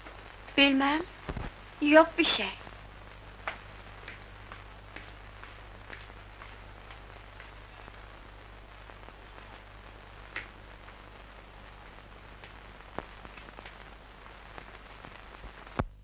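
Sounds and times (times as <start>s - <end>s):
faint crackle: 0.0s - 16.0s
film soundtrack hiss and hum: 0.0s - 16.0s.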